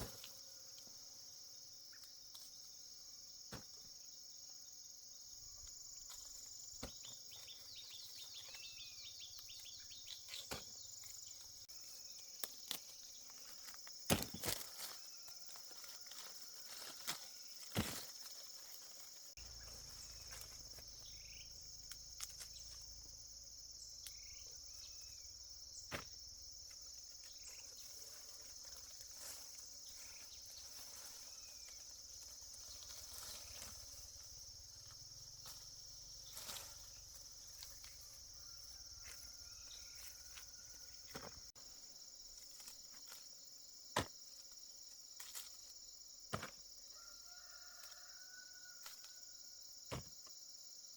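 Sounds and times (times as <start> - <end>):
insects chorus: 0.0 - 50.9.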